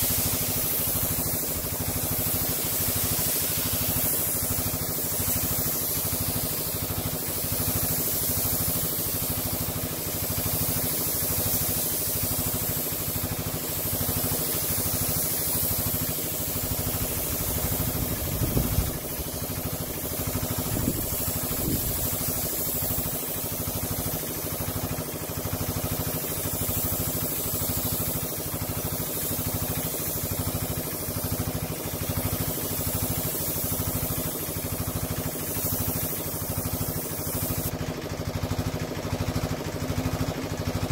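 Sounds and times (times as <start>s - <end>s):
air compressor chugging: 0.0s - 40.9s
paint spray gun hissing: 0.0s - 40.9s.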